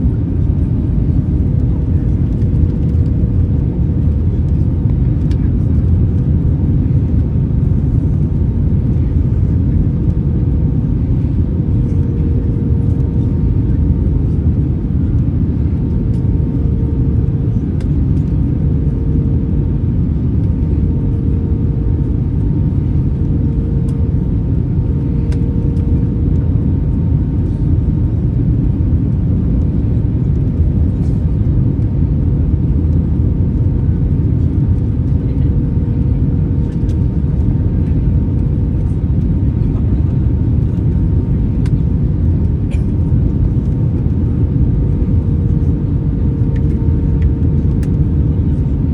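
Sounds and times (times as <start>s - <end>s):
airplane cabin rumble: 0.0s - 48.9s
constant hum: 0.0s - 48.9s.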